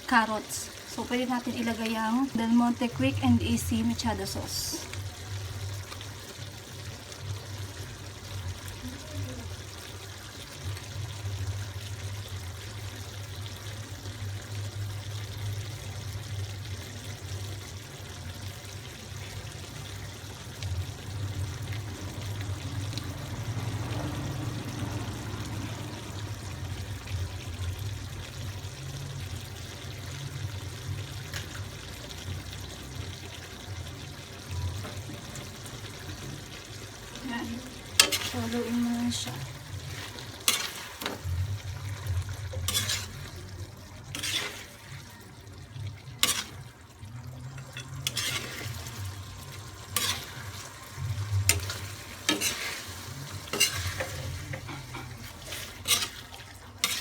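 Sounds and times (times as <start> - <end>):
food bubbling in a pot: 0.0 - 57.0.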